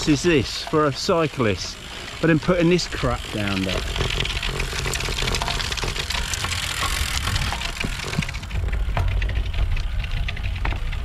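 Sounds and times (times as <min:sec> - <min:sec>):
grit ticking off bike tyres: 0:00.0 - 0:11.0.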